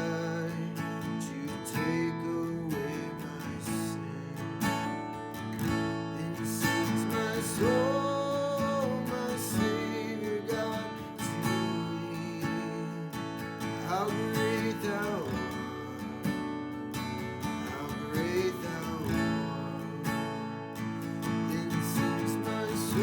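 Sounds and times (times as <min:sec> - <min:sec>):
strummed acoustic guitar: 0:00.0 - 0:23.0.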